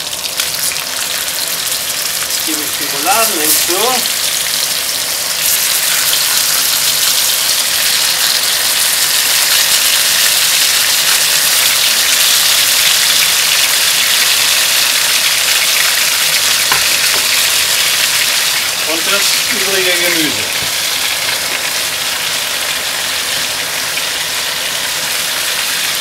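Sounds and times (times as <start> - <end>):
meat sizzling in hot fat: 0.0 - 26.0.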